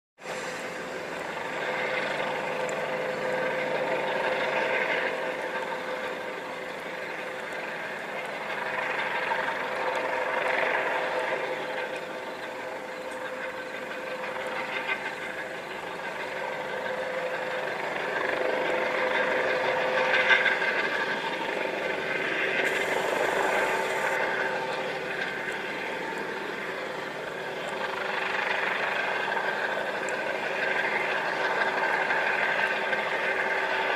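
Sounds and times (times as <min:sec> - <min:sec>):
engine drone with humming tone: 0:00.2 - 0:33.9.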